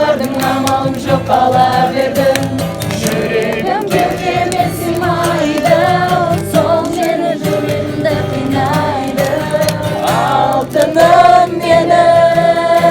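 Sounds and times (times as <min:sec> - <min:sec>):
song with sung vocals: 0:00.0 - 0:12.9.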